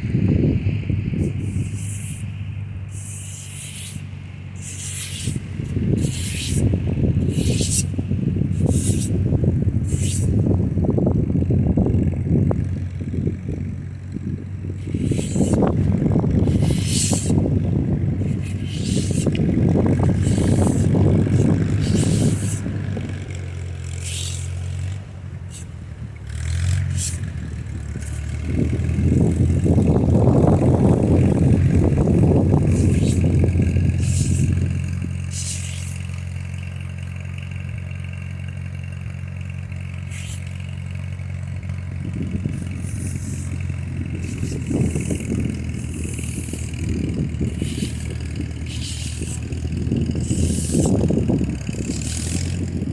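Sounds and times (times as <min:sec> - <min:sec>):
wind buffeting microphone: 0:00.0 - 0:35.5, 0:40.4 - 0:52.9
vehicle engine running: 0:00.0 - 0:52.9.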